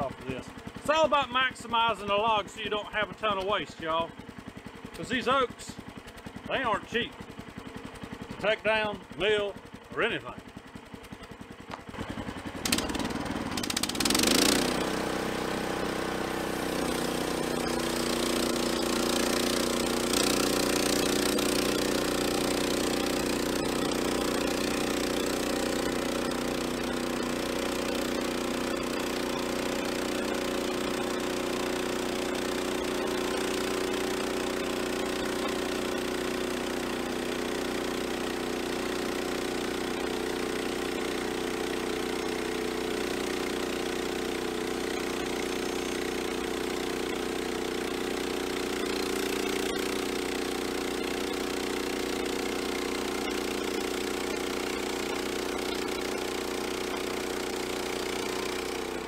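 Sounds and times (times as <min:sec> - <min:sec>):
small gas engine starting and running: 0:00.0 - 0:59.0.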